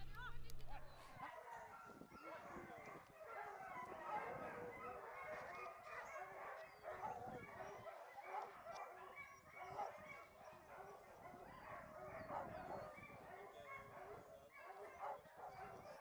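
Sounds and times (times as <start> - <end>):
dogs barking: 0.0 - 16.0.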